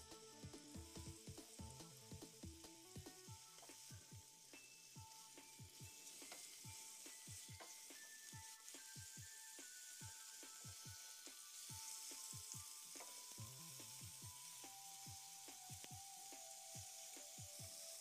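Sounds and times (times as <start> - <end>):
background music with steady beat: 0.0 - 18.0
fish sizzling in oil: 0.0 - 18.0.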